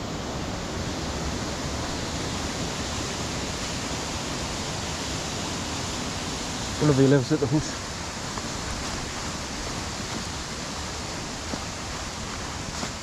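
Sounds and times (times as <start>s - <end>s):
brook water rushing: 0.0s - 13.0s.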